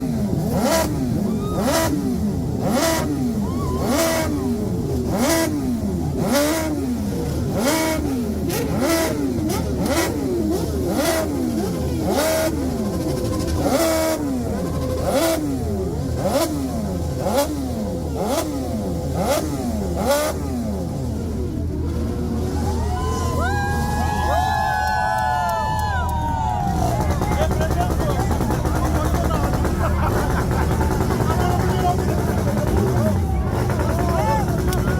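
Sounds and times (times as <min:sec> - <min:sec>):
motorcycles riding past: 0:00.0 - 0:34.9.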